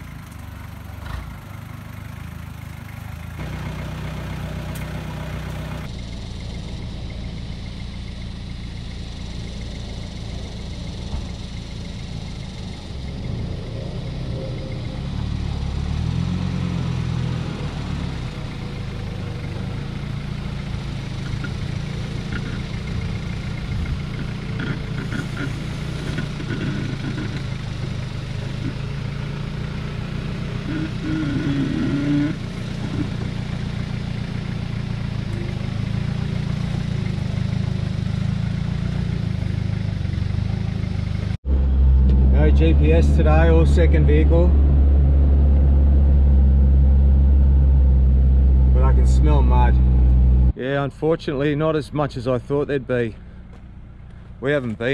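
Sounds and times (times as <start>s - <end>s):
diesel engine at low revs: 0.0s - 54.9s.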